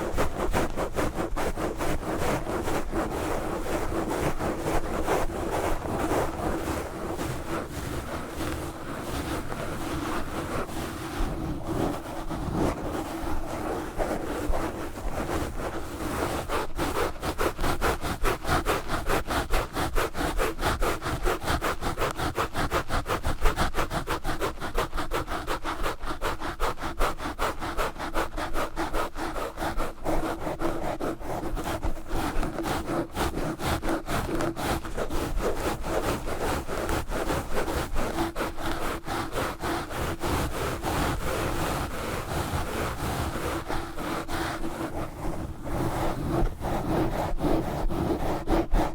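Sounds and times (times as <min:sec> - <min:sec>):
gloves scratching on microphone: 0:00.0 - 0:48.9.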